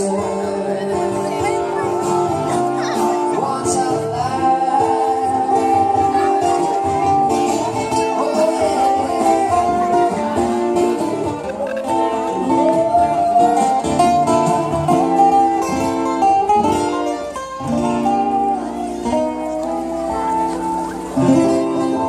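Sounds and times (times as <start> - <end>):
music with plucked guitar: 0.0 - 22.0.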